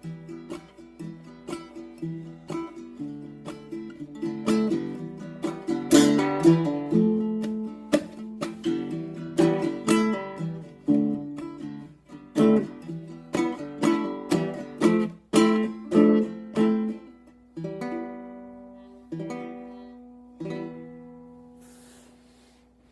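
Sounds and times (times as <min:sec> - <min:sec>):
acoustic guitar strumming chords: 0:00.0 - 0:22.6.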